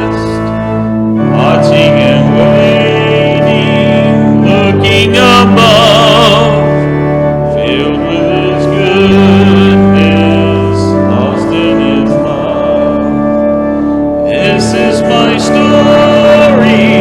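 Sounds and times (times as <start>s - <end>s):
organ chords: 0.0s - 17.0s
person singing with vibrato: 0.0s - 17.0s.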